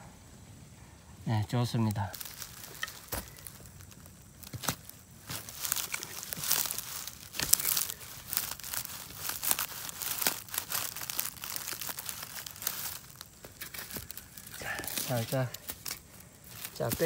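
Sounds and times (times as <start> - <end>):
dry grass and leaves rustling: 1.2 - 17.0.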